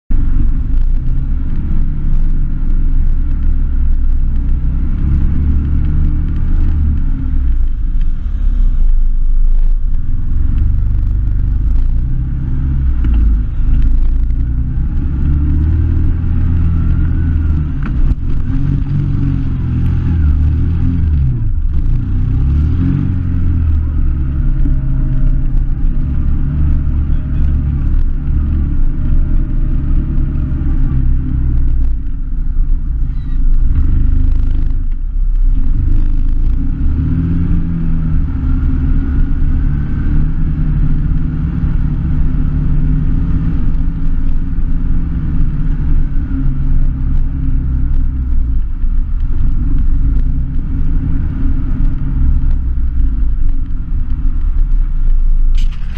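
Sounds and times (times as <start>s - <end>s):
off-road vehicle engine revving: 0.1s - 55.9s.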